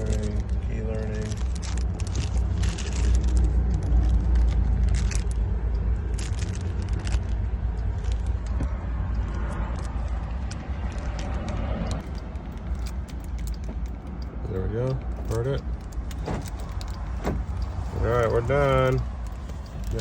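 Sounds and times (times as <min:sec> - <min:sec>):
car keys clicking and rattling: 0:00.0 - 0:20.0
steady low rumble: 0:00.0 - 0:20.0.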